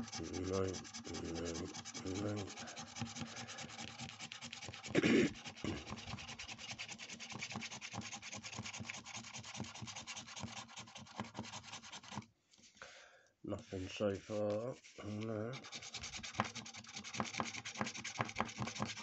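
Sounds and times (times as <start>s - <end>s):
scratchcard being scratched: 0.0s - 12.2s, 14.4s - 19.0s.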